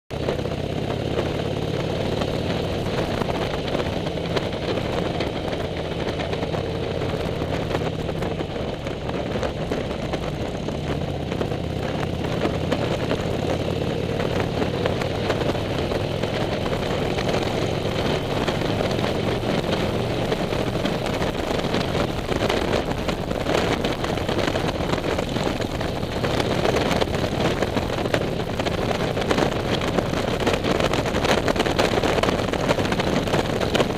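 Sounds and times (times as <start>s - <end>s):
motorcycle engine drone: 0.1s - 33.9s
wind rushing past microphone: 0.1s - 33.9s.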